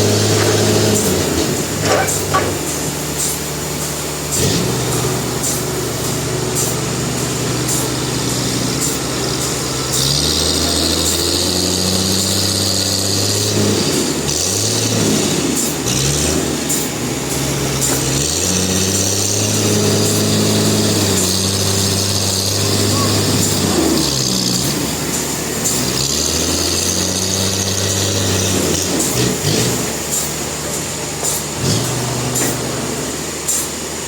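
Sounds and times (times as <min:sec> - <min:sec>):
sawmill machinery motor: 0:00.0 - 0:34.0.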